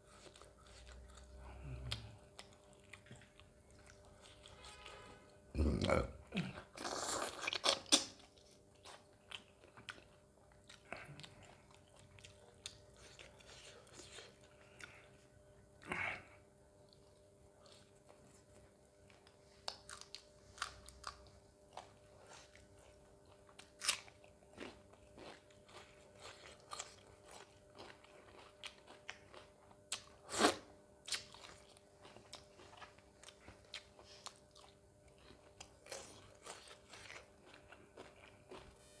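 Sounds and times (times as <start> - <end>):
chewing: 0.0 - 4.9, 6.8 - 15.2, 16.8 - 38.7.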